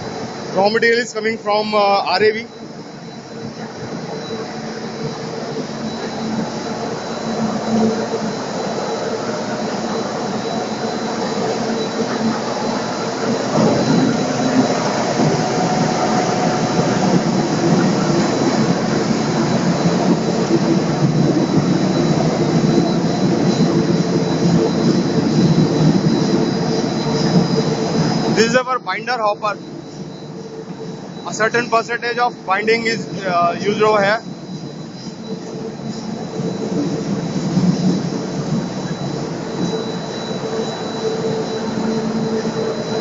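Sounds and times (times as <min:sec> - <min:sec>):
constant machine hums: 0:00.0 - 0:43.0
industrial machinery din: 0:00.0 - 0:43.0.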